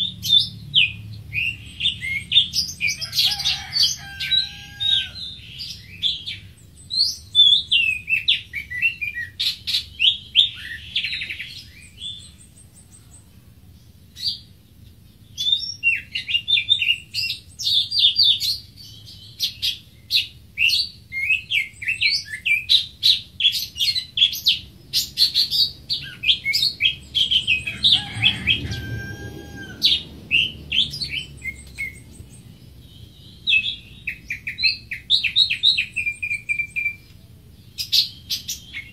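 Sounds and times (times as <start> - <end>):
bird singing chirps and whistles: 0.0 - 3.1, 5.2 - 12.8, 15.3 - 28.1, 29.9 - 37.1, 37.7 - 38.9.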